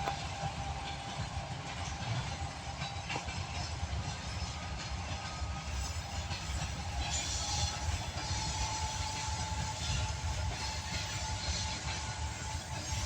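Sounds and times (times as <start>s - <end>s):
diesel freight train rumble: 0.0s - 13.0s
train clicks: 0.0s - 13.0s.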